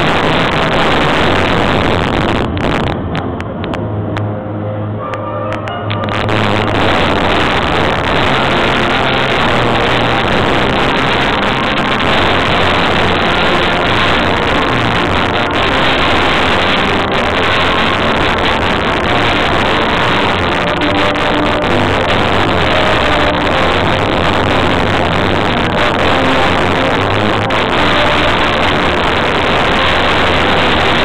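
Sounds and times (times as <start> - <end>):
heavily distorted loudspeaker music: 0.0 - 3.3, 5.1 - 31.0.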